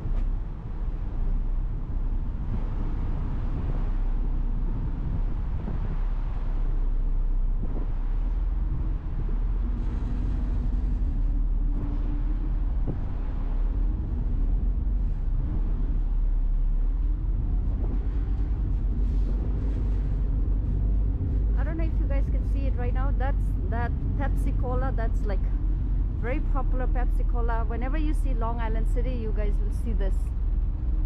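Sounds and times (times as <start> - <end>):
faint hum: 0.0 - 31.0
ferry engine rumble: 0.0 - 31.0.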